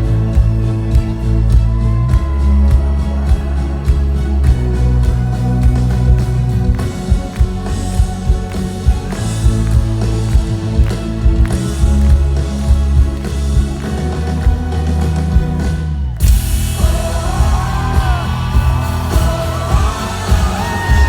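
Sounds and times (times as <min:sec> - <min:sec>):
electric guitar: 0:00.0 - 0:21.0
heavy bass: 0:00.0 - 0:21.0
live pop band playing: 0:00.0 - 0:21.0
steady drum beat: 0:00.0 - 0:21.0.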